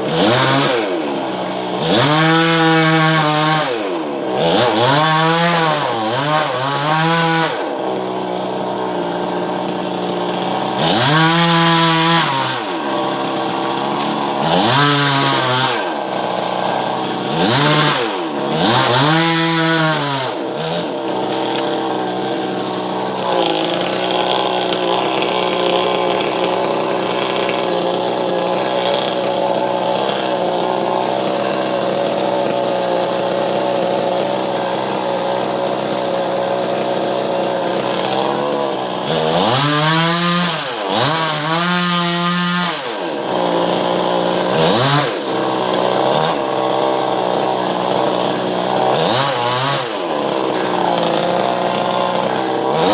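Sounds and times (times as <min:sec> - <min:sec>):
chainsaw cutting tree: 0:00.0 - 0:52.9.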